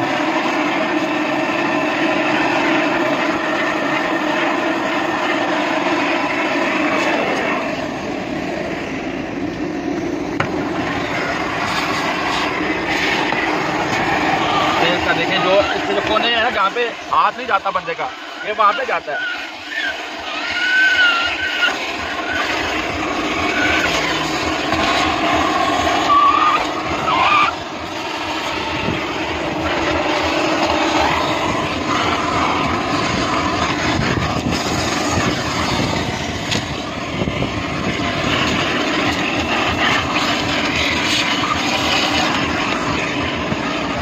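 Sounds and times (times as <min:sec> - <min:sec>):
vacuum cleaner sucking: 0:00.0 - 0:44.0.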